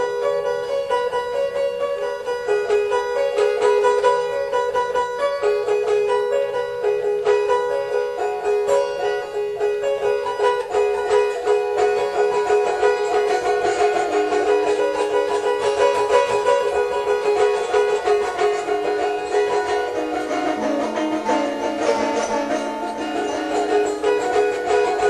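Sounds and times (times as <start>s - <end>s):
instrumental background music: 0.0s - 25.0s.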